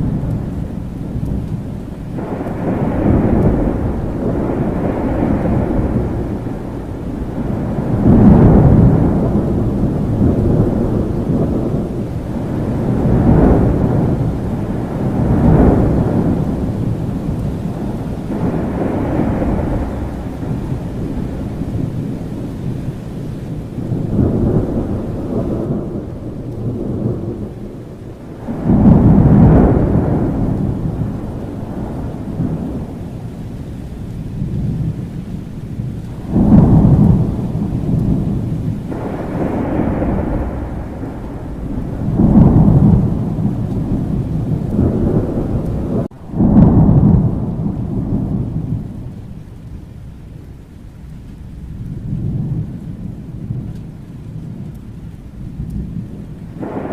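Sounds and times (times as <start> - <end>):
rolling thunder: 0.0 - 56.9
steady rain: 0.0 - 56.9.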